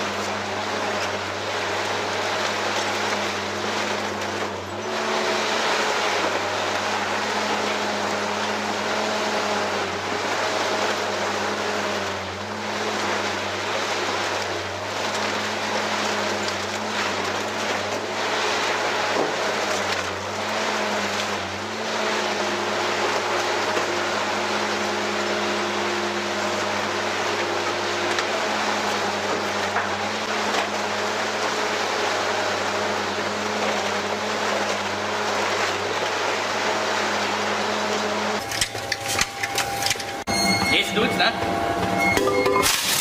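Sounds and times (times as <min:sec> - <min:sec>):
metal grinding and crunching: 0:00.0 - 0:43.0
shredder machine drone: 0:00.0 - 0:43.0.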